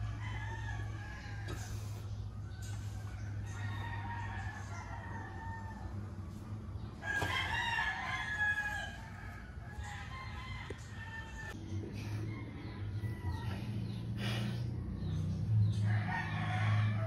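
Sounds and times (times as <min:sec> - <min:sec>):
roosters crowing: 0:00.0 - 0:17.0.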